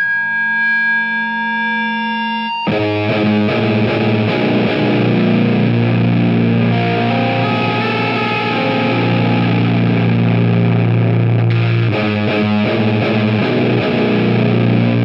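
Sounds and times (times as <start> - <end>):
distorted electric guitar chords: 0.0 - 15.0
steady held tone: 0.0 - 15.0.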